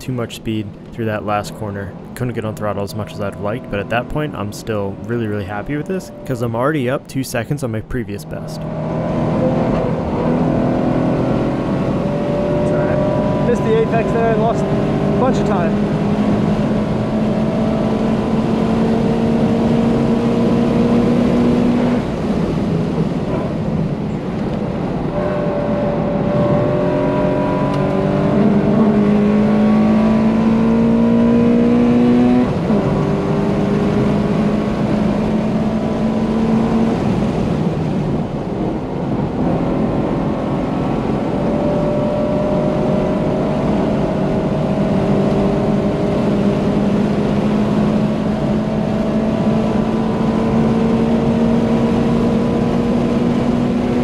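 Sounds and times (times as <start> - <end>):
road noise: 0.0 - 54.0
car engine revving hard: 8.3 - 24.0, 24.7 - 54.0.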